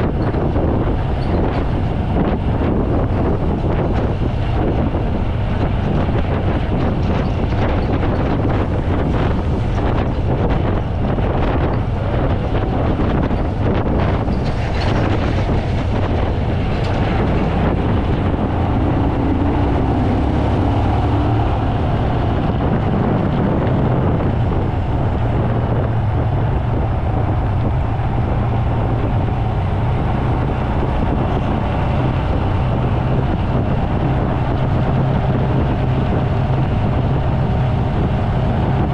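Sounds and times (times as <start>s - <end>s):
steady low rumble: 0.0s - 38.9s
wind gusts on microphone: 0.0s - 38.9s.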